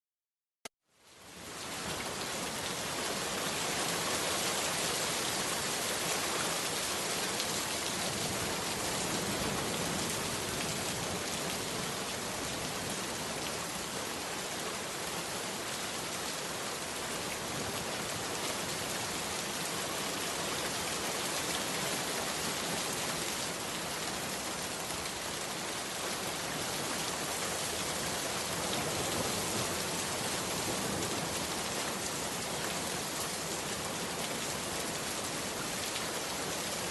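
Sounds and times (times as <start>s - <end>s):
rain falling on a surface: 0.9s - 36.9s.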